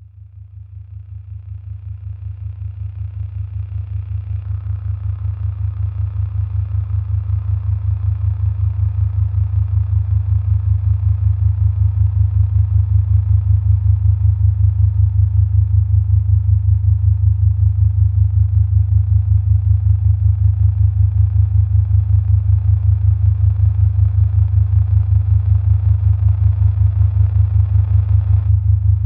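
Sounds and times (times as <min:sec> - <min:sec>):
low electronic drone: 0:00.5 - 0:29.0.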